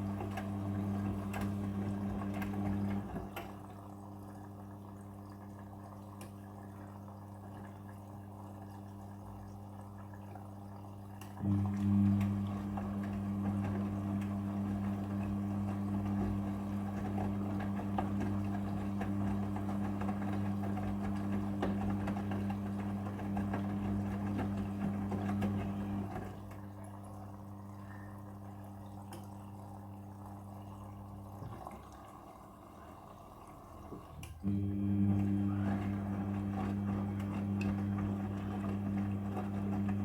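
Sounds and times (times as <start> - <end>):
washing machine humming: 0.0 - 40.0.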